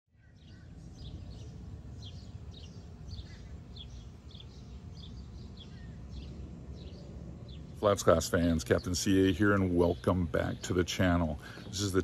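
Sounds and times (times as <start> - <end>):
bird chirping: 0.1 - 12.0
low outdoor rumble: 0.1 - 12.0.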